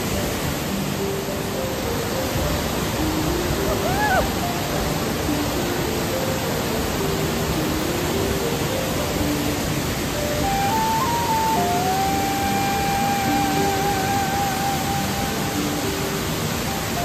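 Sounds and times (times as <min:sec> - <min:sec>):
soft music of slow single notes: 0:00.0 - 0:17.0
waterfall rushing: 0:00.0 - 0:17.0.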